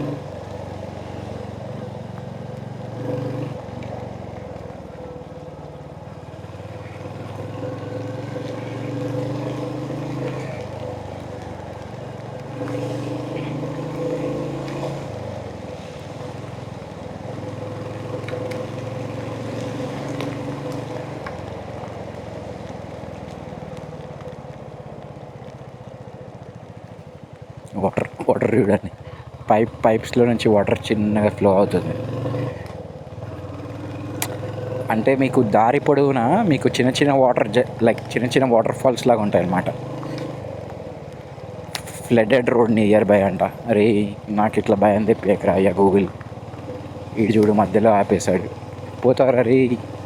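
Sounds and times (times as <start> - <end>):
motorcycle engine running: 0.0 - 50.0
road and wind noise: 0.0 - 50.0.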